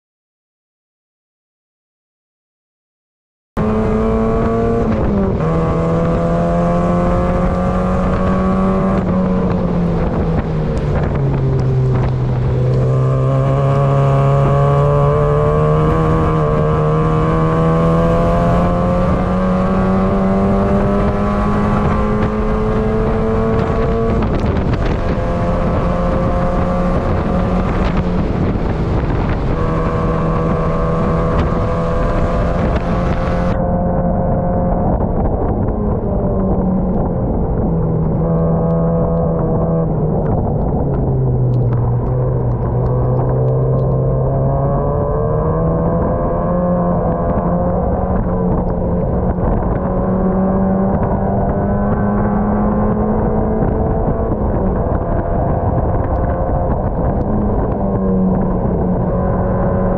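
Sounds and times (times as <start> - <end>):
race car engine from inside cabin: 3.6 - 59.9.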